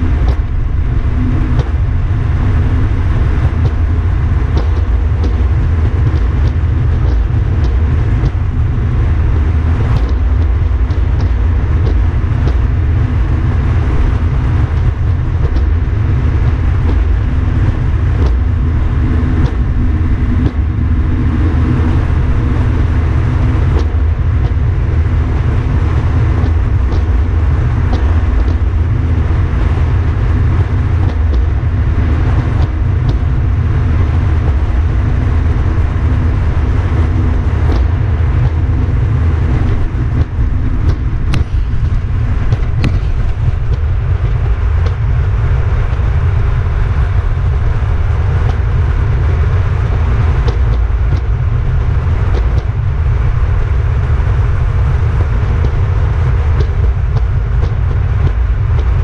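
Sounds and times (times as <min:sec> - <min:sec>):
boat motor droning: 0:00.0 - 0:59.0
water rushing along hull: 0:00.0 - 0:59.0.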